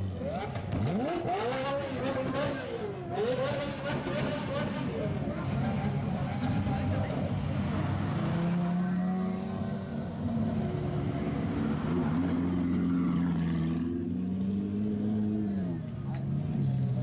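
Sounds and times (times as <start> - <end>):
car engines at low revs: 0.0 - 17.0.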